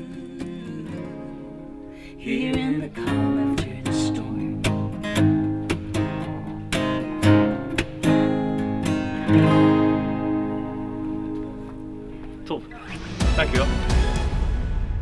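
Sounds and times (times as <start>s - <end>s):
acoustic guitars playing chords: 0.0s - 15.0s.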